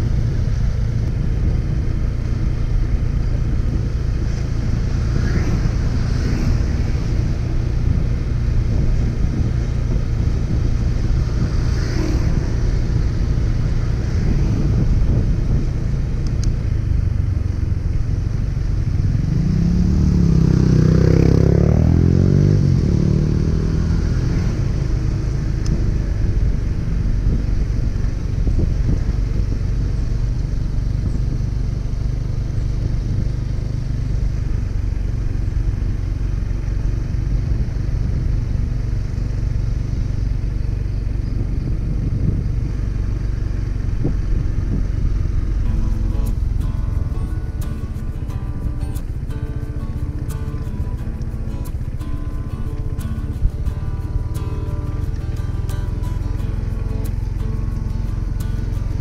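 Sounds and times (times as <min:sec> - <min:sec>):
low rumble of traffic: 0:00.0 - 0:59.0
motorcycle passing: 0:00.0 - 0:59.0
wind: 0:00.0 - 0:59.0.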